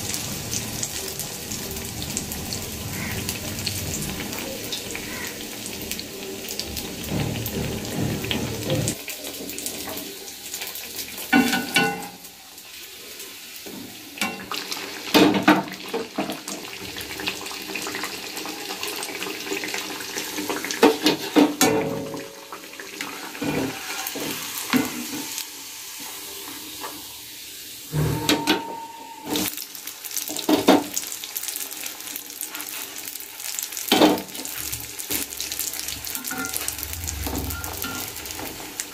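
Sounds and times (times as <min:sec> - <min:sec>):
fritters sizzling in hot oil: 0:00.0 - 0:38.9.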